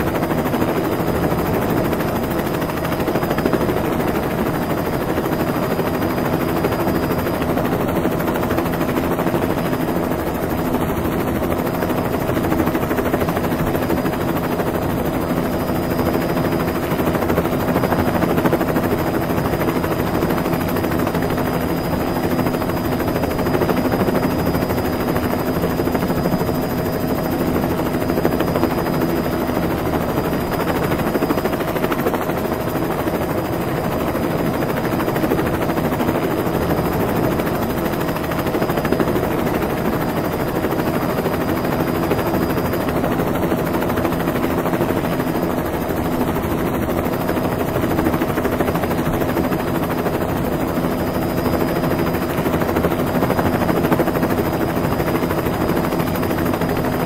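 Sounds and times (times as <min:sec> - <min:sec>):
helicopter rotor chopping: 0:00.0 - 0:57.0.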